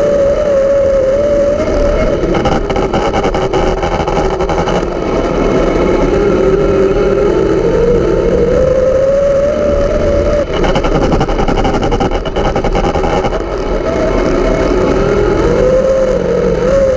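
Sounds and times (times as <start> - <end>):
race car engine running hard: 0.0 - 16.9
rapid engine crackling: 0.0 - 16.9.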